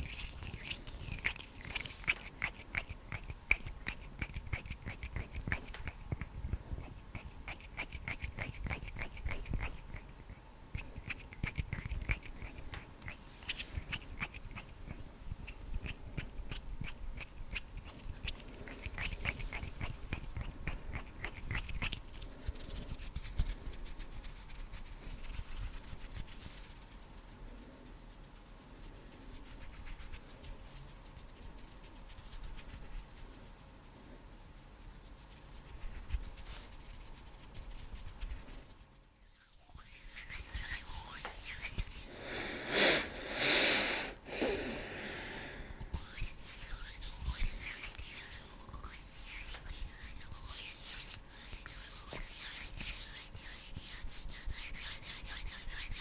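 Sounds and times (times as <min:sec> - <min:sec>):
skin rubbing on skin: 0:00.0 - 0:44.1, 0:45.6 - 0:56.0.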